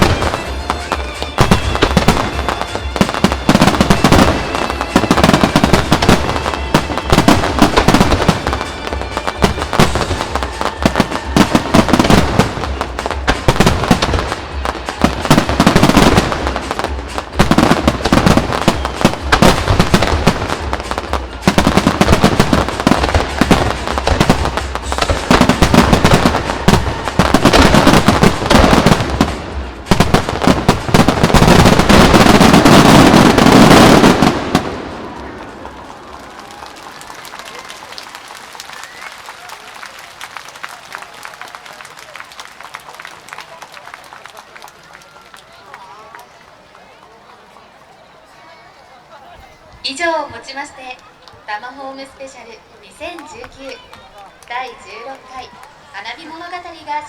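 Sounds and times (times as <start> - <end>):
fireworks bangs and crackles: 0.0 - 46.4.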